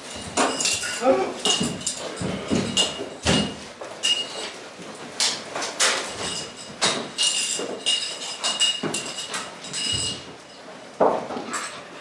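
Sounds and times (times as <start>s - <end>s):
knocks and clattering: 0.0s - 11.8s.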